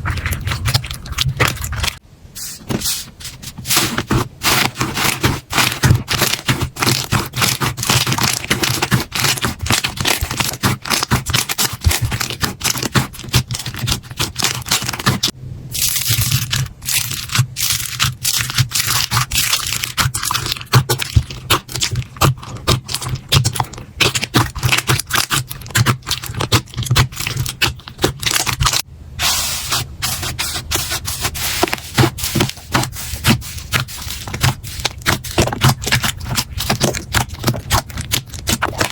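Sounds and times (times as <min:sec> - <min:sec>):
slime crackling and popping: 0:03.8 - 0:28.8, 0:31.8 - 0:38.9.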